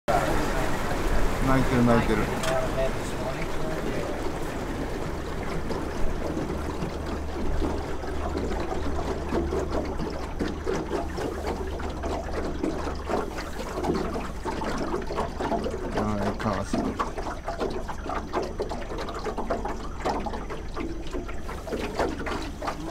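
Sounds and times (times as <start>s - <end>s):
water splashing along boat hull: 0.0s - 22.9s
low engine hum: 0.1s - 22.9s.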